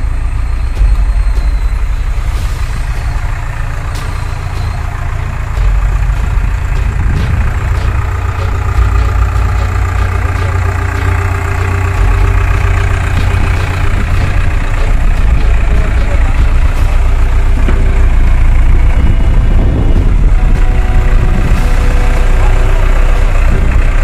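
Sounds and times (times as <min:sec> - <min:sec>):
excavator diesel engine humming: 0:00.0 - 0:24.0.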